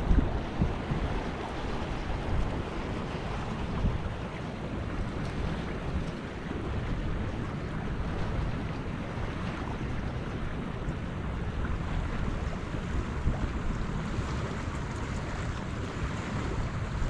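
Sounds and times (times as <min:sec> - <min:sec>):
river flowing: 0:00.0 - 0:17.0
wind buffeting microphone: 0:00.0 - 0:17.0.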